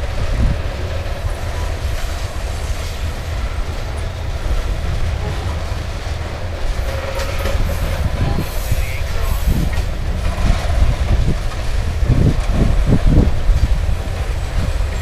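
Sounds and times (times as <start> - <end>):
train wheels rumbling on rails: 0.0 - 15.0
wheel clacks and thumps: 0.0 - 15.0.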